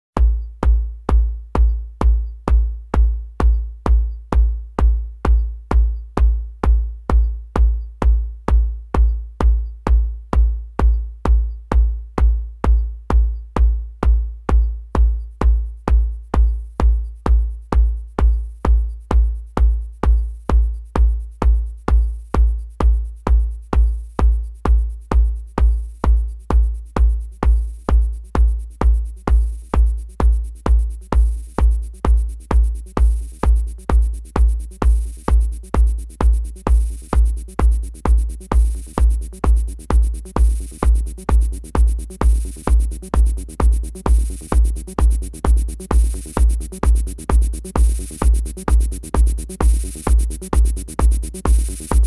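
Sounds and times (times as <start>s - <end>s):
drum machine kick drum: 0.0s - 52.0s.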